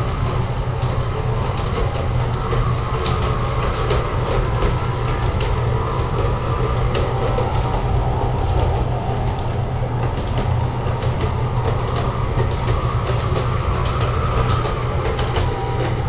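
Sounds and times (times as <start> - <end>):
wheels rumbling over rails: 0.0 - 16.0.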